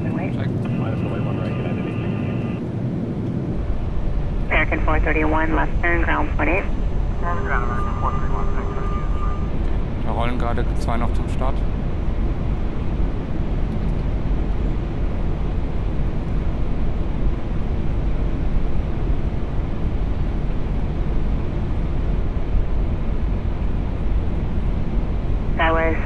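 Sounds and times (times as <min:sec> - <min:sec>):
cockpit low rumble: 0:00.0 - 0:26.0.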